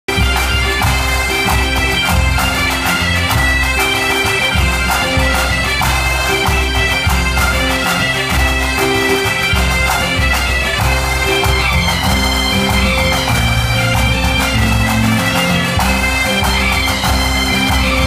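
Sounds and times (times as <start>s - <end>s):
bagpipes playing dance tune: 0.1s - 18.0s
bass drum beating: 0.1s - 18.0s.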